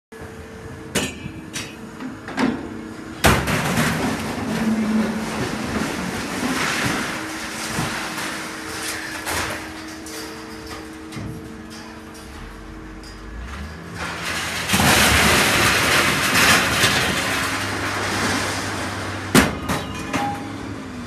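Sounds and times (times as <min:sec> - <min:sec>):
machinery hum: 0:00.1 - 0:21.0
scrap metal crash: 0:03.2 - 0:21.0
scrap metal scraping and rattling: 0:03.3 - 0:21.0.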